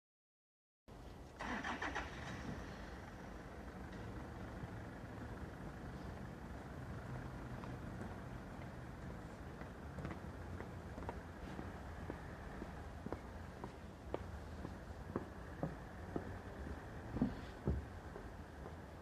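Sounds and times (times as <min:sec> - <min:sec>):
vehicle engine rumbling: 0:00.9 - 0:19.0.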